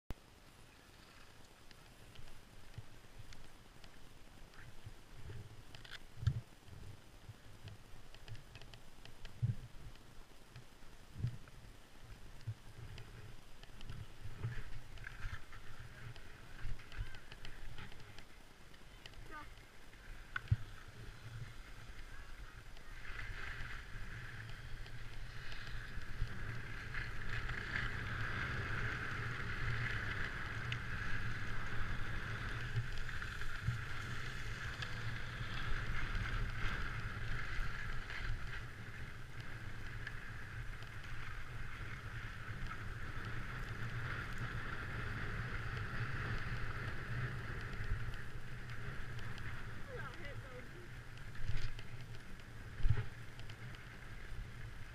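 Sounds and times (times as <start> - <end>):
skis sliding over snow: 0.4 - 54.9
wind rumble on microphone: 1.0 - 54.9.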